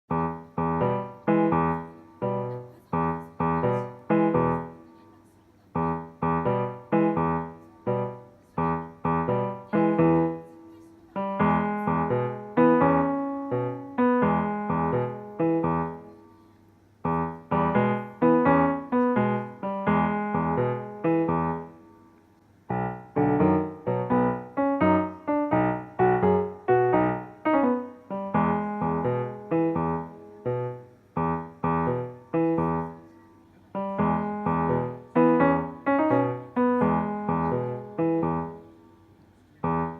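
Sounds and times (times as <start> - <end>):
piano tune: 0.1 - 39.9.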